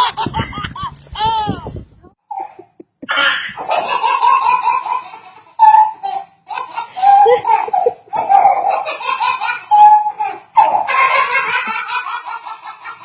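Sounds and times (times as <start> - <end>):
child laughing: 0.0 - 13.0.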